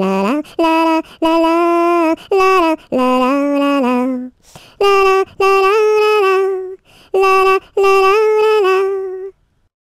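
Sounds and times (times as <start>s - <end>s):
person singing la: 0.0s - 9.4s.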